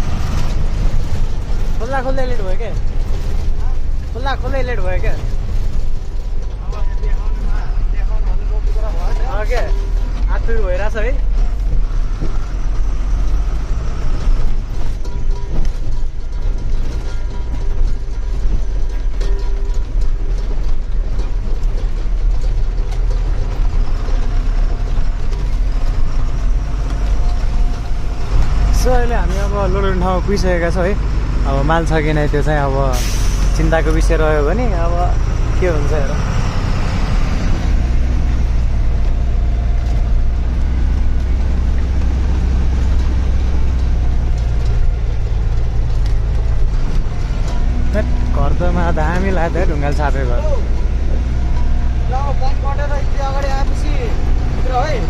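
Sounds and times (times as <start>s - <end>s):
truck engine droning: 0.0s - 55.0s
vehicle body rattling: 0.0s - 55.0s.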